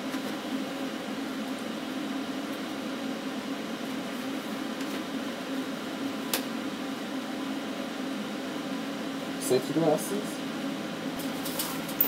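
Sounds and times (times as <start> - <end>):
cooling fan hum and hiss: 0.0 - 12.0.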